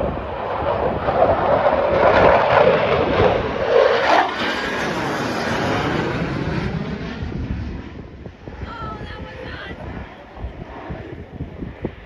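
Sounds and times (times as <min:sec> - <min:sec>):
fighter jet flying past: 0:00.0 - 0:12.0.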